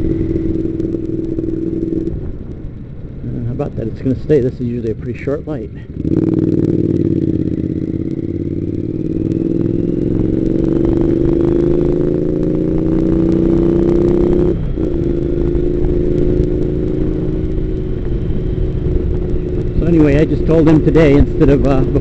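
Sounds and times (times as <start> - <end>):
low wind rumble: 0.0 - 22.0
motorcycle engine accelerating: 0.0 - 22.0.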